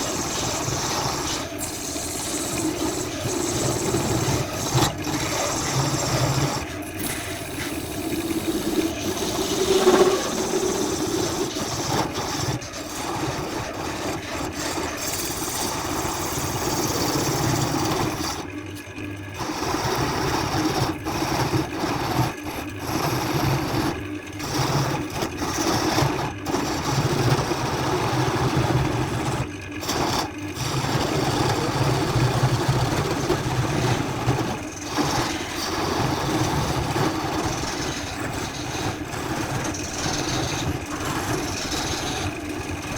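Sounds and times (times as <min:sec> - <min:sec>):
electric machine motor humming: 0:00.0 - 0:42.9.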